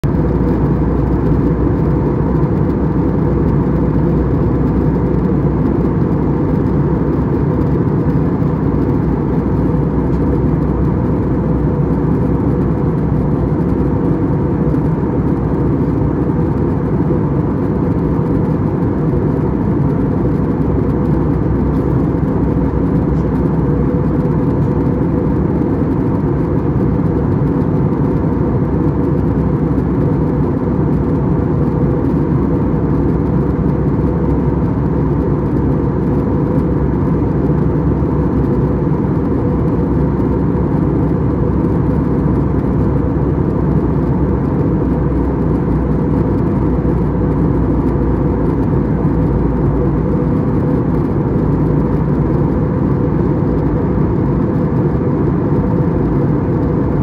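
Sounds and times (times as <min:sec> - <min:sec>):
aircraft cabin engine rush: 0:00.0 - 0:57.0.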